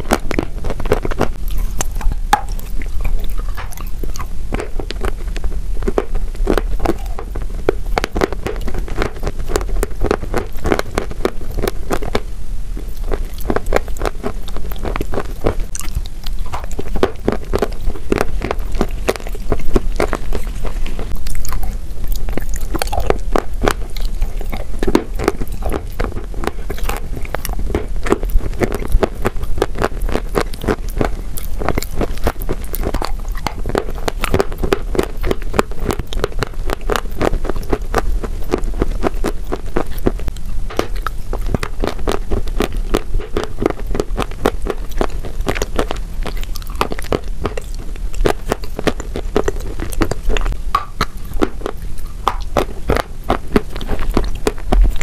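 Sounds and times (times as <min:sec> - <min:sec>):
crunching and chewing cookies: 0:00.0 - 0:55.0.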